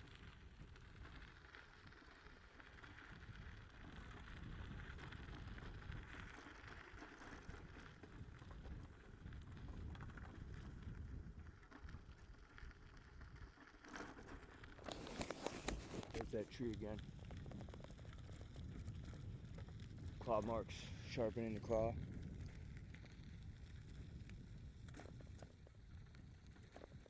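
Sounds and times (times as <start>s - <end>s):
light crackles and rustles: 0.0s - 27.0s
wind rumble on microphone: 0.0s - 27.0s.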